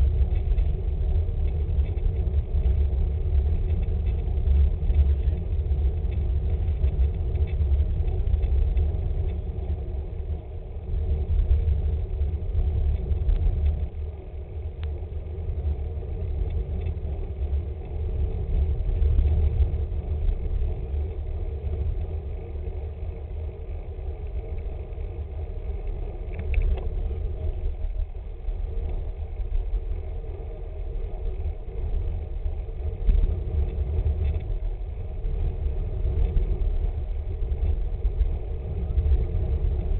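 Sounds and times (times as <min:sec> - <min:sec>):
tyres humming on road: 0:00.0 - 0:39.9
wind buffeting microphone: 0:00.0 - 0:39.9.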